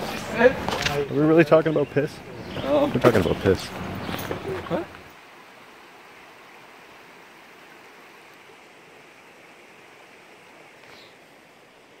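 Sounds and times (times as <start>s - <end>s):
rushing creek water: 0.0s - 12.0s.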